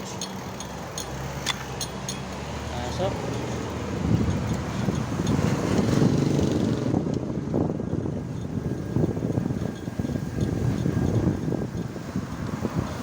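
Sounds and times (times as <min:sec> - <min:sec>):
vehicle moving along road: 0:00.0 - 0:13.0
wind buffeting microphone: 0:00.7 - 0:13.0.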